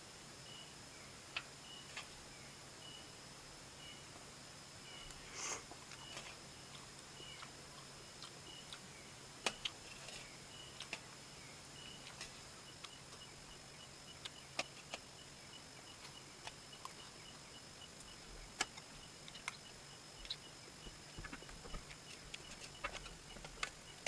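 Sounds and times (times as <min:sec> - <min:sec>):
faint steady hiss and hum: 0:00.0 - 0:24.0.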